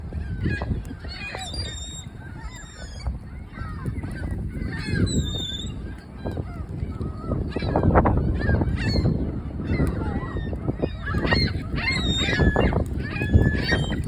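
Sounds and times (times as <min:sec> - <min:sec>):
gulls squawking: 0:00.1 - 0:14.0.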